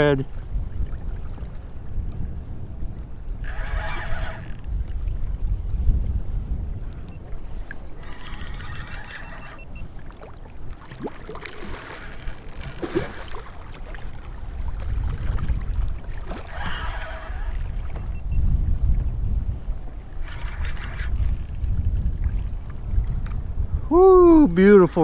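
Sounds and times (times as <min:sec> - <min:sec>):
water sloshing around kayak: 0:00.0 - 0:23.6
wind rumbling on microphone: 0:00.0 - 0:25.0.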